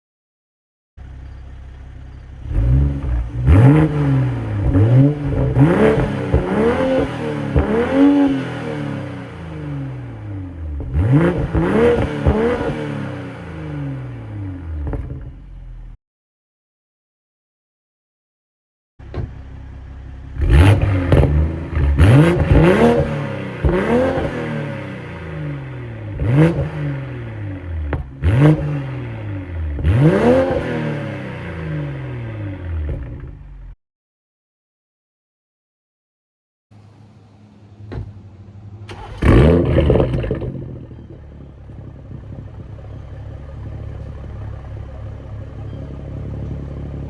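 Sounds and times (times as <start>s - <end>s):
car engine revving: 1.3s - 16.0s, 20.0s - 33.7s, 36.8s - 47.0s.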